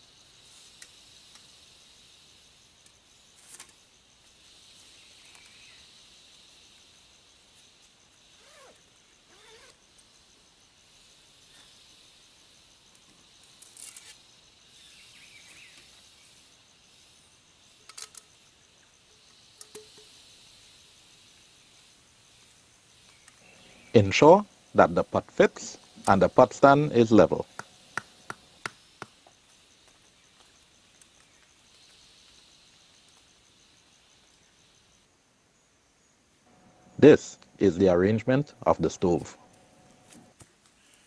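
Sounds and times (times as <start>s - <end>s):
forest insects humming: 0.0s - 41.0s.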